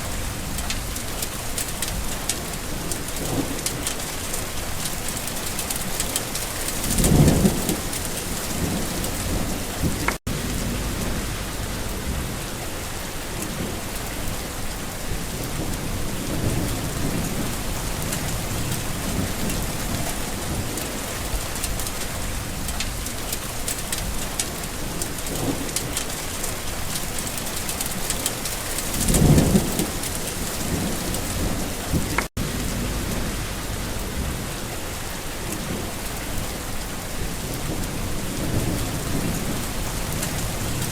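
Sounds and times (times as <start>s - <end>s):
thunder rumbling: 0.0s - 23.3s, 27.6s - 40.9s
heavy rain falling: 0.0s - 40.9s.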